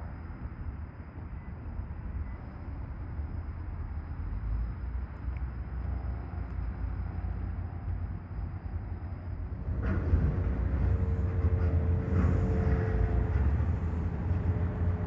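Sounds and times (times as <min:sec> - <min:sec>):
heavy vehicle engine rumble: 0:00.0 - 0:15.0
steady whine: 0:00.0 - 0:15.0.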